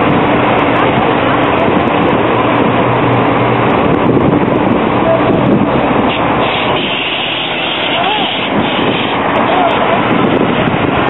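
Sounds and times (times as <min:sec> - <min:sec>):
bus driving past: 0:00.0 - 0:11.0
city street traffic: 0:00.0 - 0:11.0.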